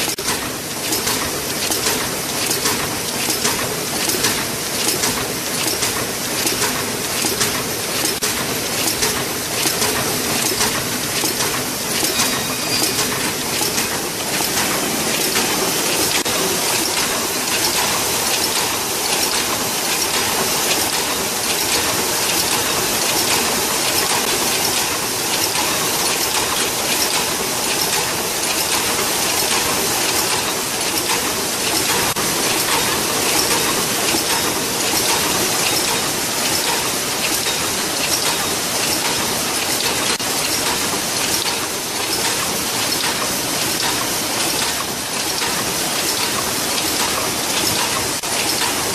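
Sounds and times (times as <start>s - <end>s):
machine clattering and rattling: 0.0s - 48.9s.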